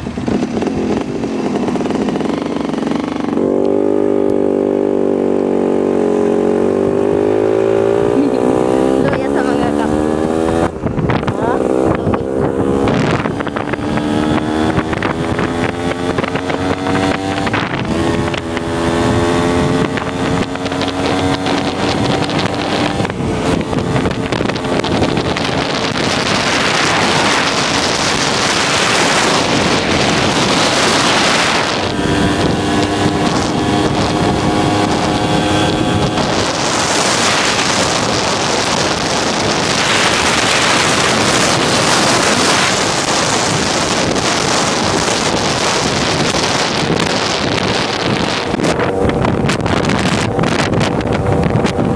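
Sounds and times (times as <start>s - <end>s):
small motorcycle engine revving: 0.0s - 51.9s
wind buffeting microphone: 0.0s - 51.9s.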